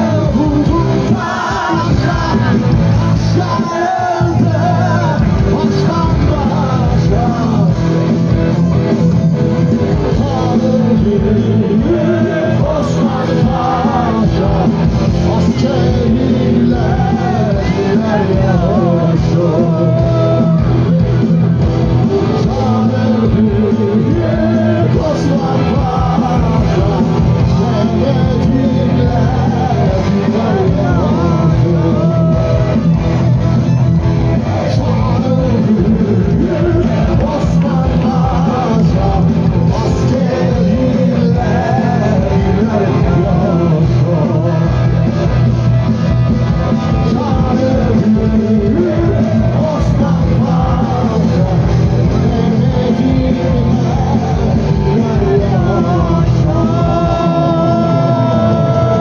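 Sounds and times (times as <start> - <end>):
live rock band playing: 0.0 - 59.0
man singing: 0.0 - 59.0.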